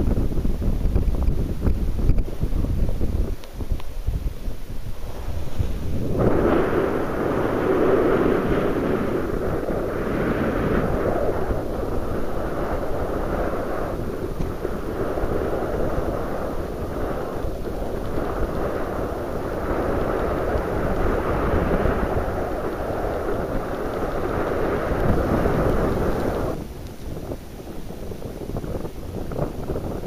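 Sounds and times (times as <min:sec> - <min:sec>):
wind buffeting microphone: 0:00.0 - 0:30.0
sea noise: 0:01.6 - 0:30.0.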